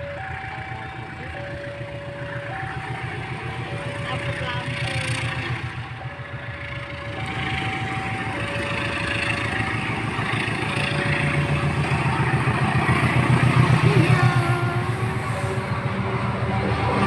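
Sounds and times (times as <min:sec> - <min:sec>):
level crossing two-tone alarm: 0:00.0 - 0:17.0
low engine rumble: 0:00.0 - 0:17.0.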